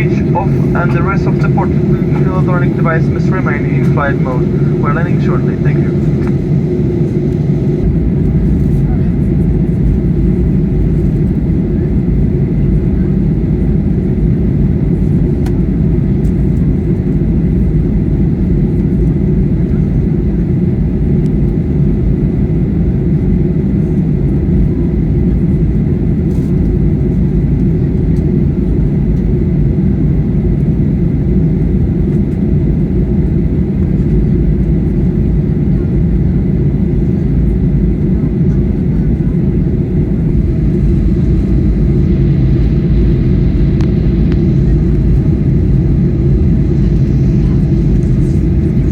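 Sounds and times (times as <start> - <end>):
aircraft cabin rumble: 0.0 - 48.9.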